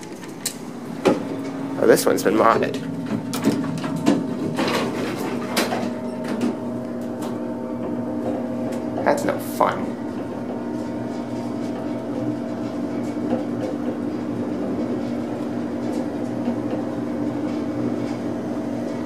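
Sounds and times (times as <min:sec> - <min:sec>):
elevator running hum: 0:00.0 - 0:19.0.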